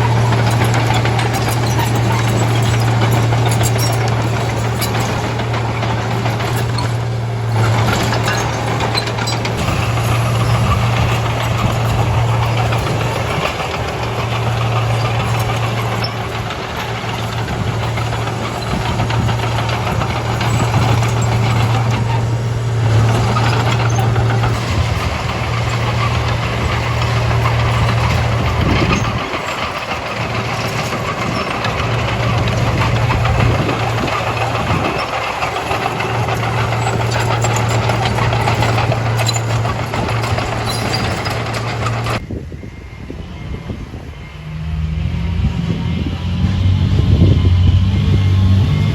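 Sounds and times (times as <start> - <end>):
bulldozer diesel engine drone: 0.0 - 48.9.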